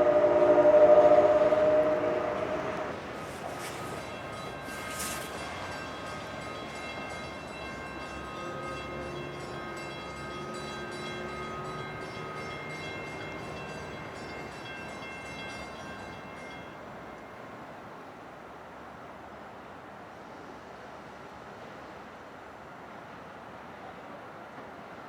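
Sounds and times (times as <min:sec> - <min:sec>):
train whine: 0:00.0 - 0:25.0.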